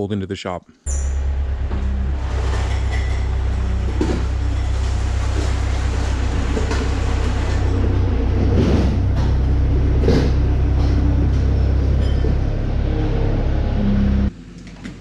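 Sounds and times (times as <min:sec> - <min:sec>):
diesel engine rumbling: 0:00.9 - 0:15.0.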